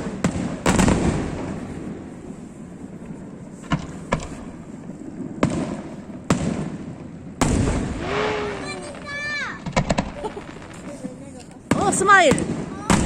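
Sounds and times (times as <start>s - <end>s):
fireworks bursting with sharp bangs: 0.0s - 13.0s
heavy firework boom with rumble: 0.0s - 13.0s.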